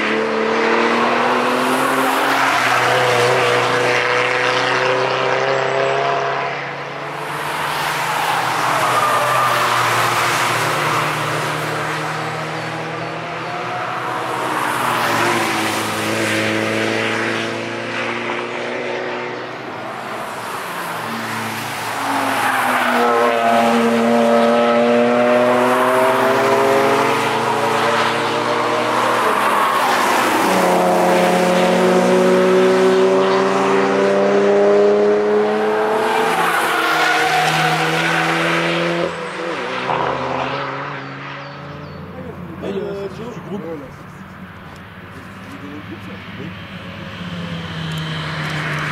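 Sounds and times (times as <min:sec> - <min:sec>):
cars driving past fast: 0:00.0 - 0:48.9.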